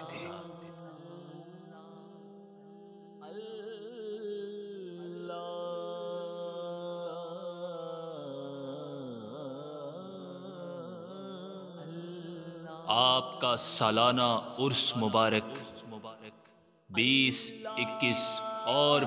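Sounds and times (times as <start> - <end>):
wordless chanting voice: 0.0 - 19.0.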